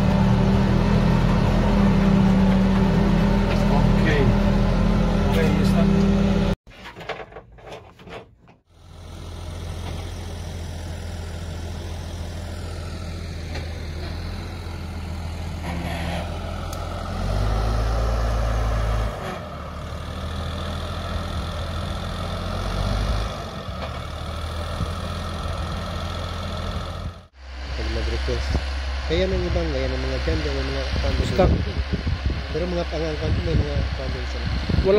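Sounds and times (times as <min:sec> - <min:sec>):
tractor diesel engine running: 0:00.0 - 0:06.6, 0:08.6 - 0:34.9.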